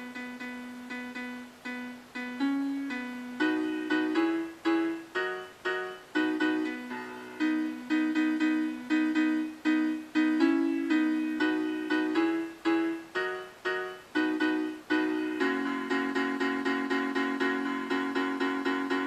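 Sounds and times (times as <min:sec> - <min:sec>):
piano playing hymn chords: 0:00.0 - 0:19.0.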